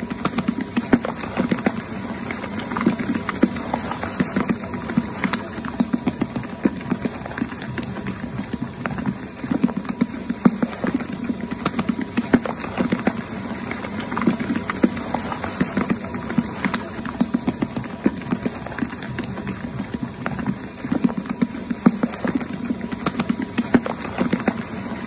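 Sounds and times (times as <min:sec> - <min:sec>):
dough slapping against bowl: 0:00.0 - 0:25.0.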